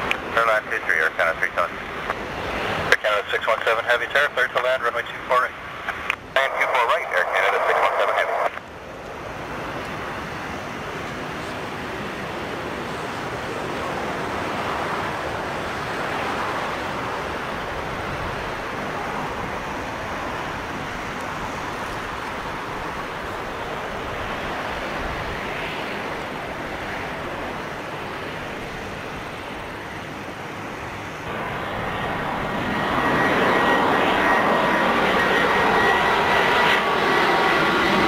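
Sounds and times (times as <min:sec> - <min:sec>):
high engine whine: 0:00.0 - 0:38.0
jet engines rushing: 0:00.0 - 0:38.0.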